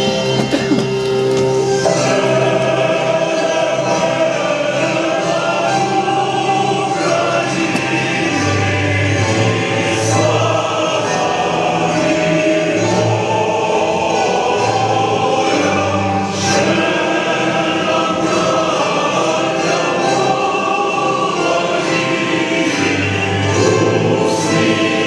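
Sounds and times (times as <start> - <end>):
choir singing long notes: 0.0 - 25.0.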